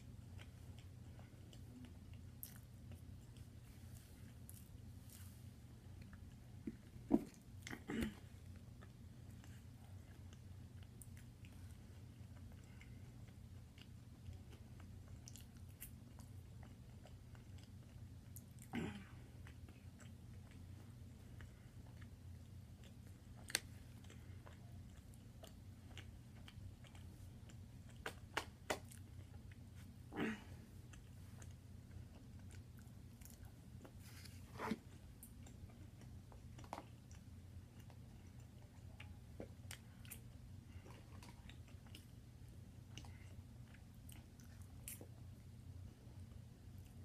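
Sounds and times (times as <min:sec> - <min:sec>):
low steady hum: 0:00.0 - 0:47.0
person chewing: 0:00.1 - 0:30.1, 0:30.7 - 0:45.2.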